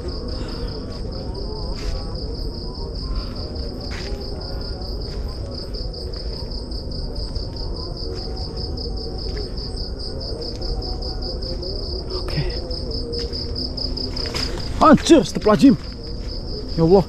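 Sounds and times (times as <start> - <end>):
night insects trilling: 0.0 - 17.0
footsteps on dirt trail: 0.4 - 11.7, 12.5 - 17.0.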